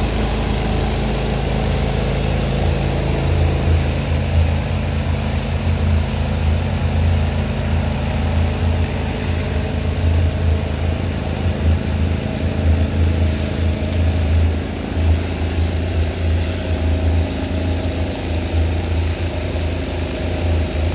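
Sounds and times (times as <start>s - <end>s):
pressure washer engine hum: 0.0s - 20.9s
pressure washer hiss: 0.0s - 20.9s.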